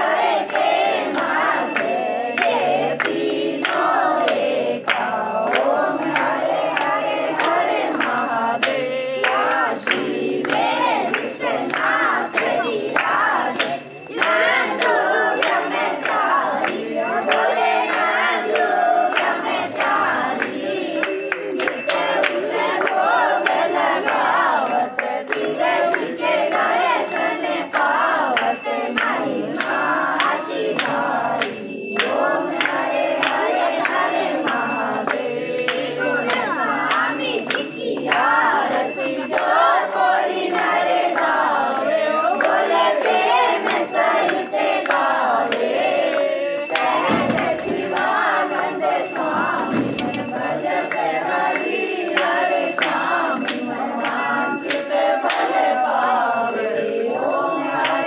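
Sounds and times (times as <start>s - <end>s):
hands clapping: 0.0s - 56.7s, 57.8s - 58.0s
bells ringing: 0.0s - 58.0s
group singing together: 0.0s - 58.0s.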